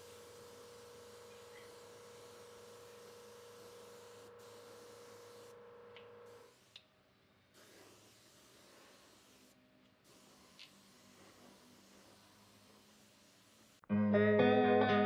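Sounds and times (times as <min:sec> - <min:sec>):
light hiss: 0:00.0 - 0:06.9, 0:07.6 - 0:13.8.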